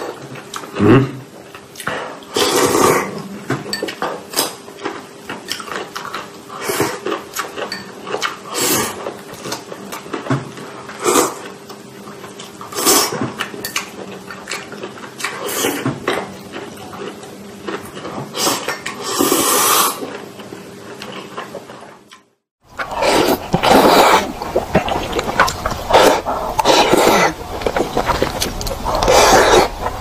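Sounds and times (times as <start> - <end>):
slurping: 1.8 - 3.3, 5.5 - 22.0, 22.7 - 30.0
wet chewing and lip-smacking: 3.9 - 19.0, 20.0 - 30.0.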